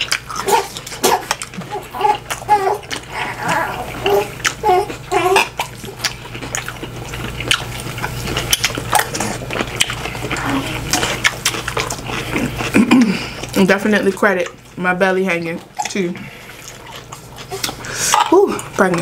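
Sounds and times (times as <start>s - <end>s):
wet chewing and lip-smacking: 0.0s - 19.0s.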